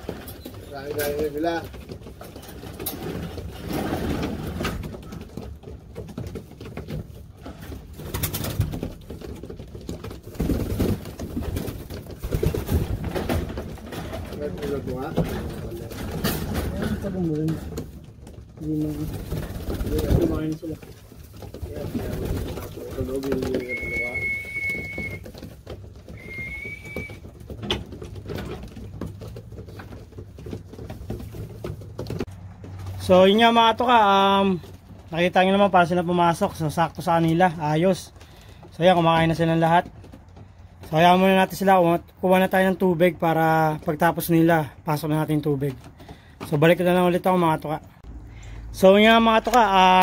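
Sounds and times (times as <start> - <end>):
beaks and feet tapping on boards: 0.0 - 50.0.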